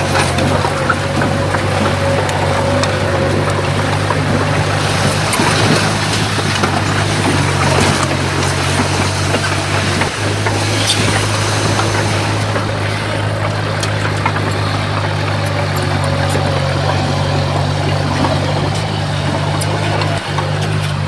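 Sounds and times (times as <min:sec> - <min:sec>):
diesel engine humming: 0:00.0 - 0:21.0
faint clicks and clanks: 0:00.0 - 0:21.0.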